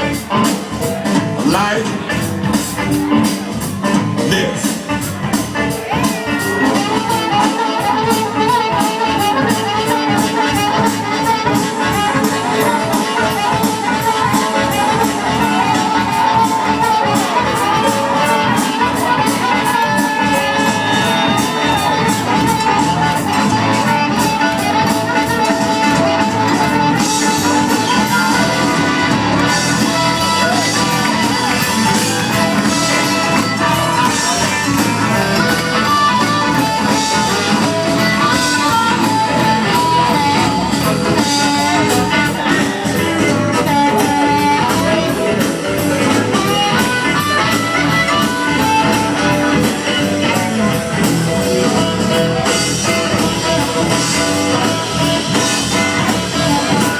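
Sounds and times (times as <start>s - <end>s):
electric blues band playing: 0.0s - 56.9s.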